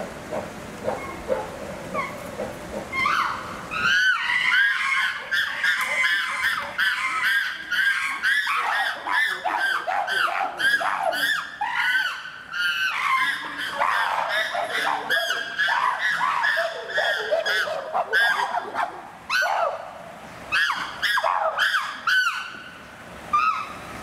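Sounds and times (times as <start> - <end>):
chimpanzees screaming: 0.8 - 2.2, 2.8 - 19.9, 20.5 - 23.8.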